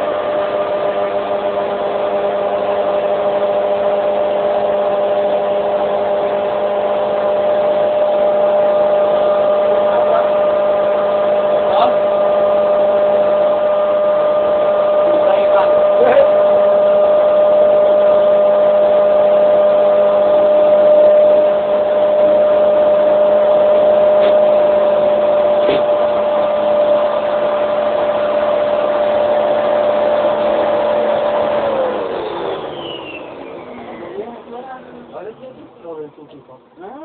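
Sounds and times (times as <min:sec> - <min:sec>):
vacuum cleaner motor whine: 0:00.0 - 0:37.0.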